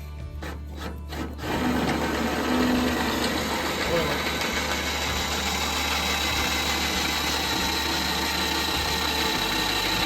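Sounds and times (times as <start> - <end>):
electric drill boring through steel: 0.4 - 10.0.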